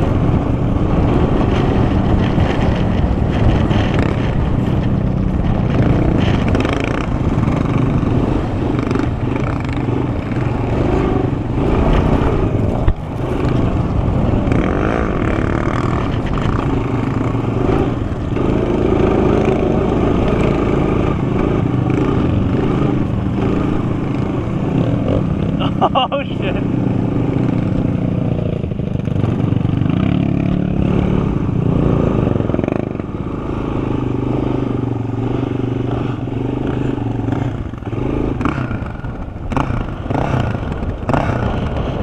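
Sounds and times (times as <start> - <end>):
quad engine revving: 0.0 - 42.0.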